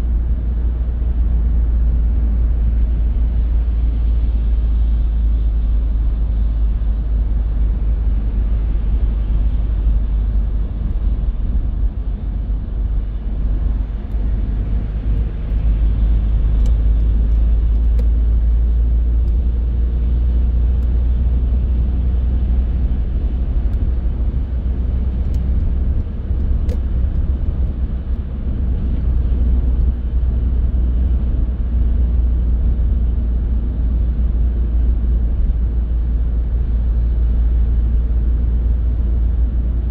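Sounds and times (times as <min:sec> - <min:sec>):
car driving on road rumble: 0:00.0 - 0:39.9.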